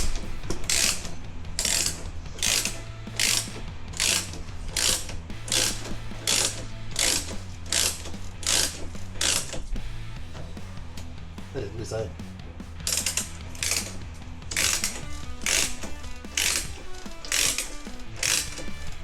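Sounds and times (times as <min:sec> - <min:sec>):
ratchet wrench clicking: 0:00.1 - 0:09.7, 0:12.8 - 0:19.0.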